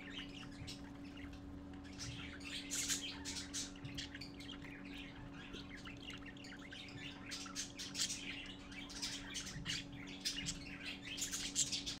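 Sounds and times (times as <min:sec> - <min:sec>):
budgerigars chirping: 0:00.0 - 0:12.0
steady low hum: 0:00.0 - 0:12.0.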